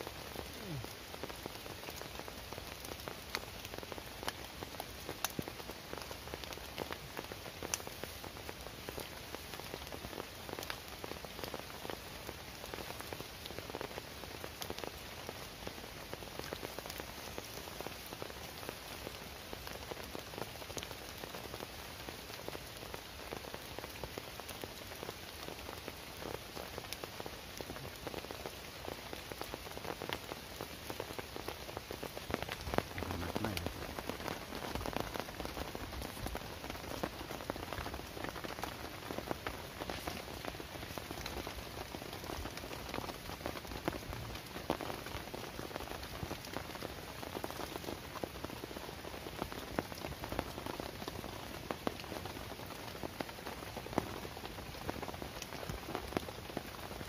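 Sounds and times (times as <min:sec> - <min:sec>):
heavy rain on a tarp: 0:00.0 - 0:57.0.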